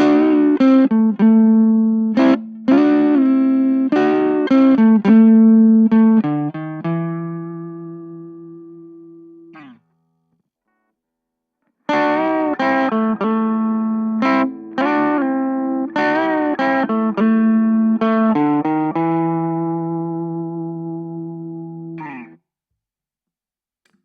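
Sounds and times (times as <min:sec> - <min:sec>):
electric guitar playing: 0:00.0 - 0:09.8, 0:11.9 - 0:22.4.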